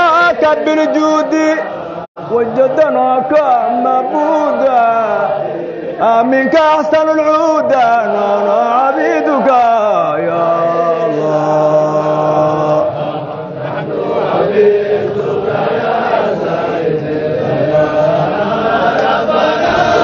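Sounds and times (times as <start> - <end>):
men chanting together: 0.0 - 20.0.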